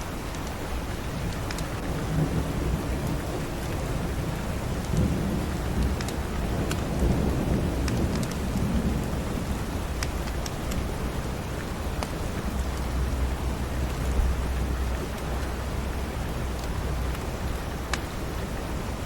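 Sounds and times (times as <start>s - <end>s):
steady rain: 0.0s - 19.0s
low rumble of thunder: 1.2s - 19.0s
wood fire crackling: 2.8s - 19.0s.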